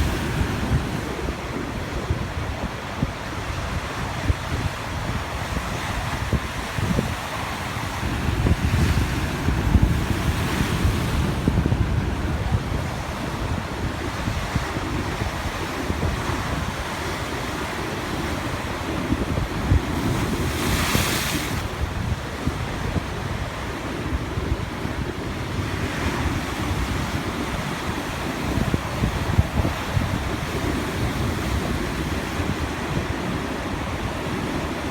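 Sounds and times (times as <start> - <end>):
sea waves washing onto shore: 0.0 - 34.9
wind buffeting microphone: 0.0 - 34.9.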